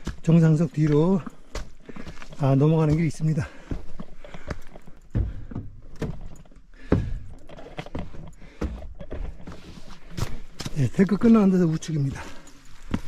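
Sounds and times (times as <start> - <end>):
footsteps on rocky dirt trail: 0.0 - 13.0.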